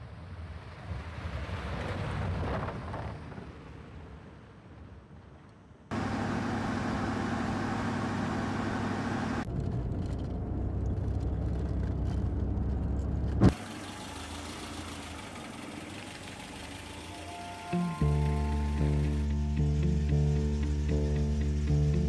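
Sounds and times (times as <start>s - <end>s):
car engine and tyres on road: 0.0s - 22.0s.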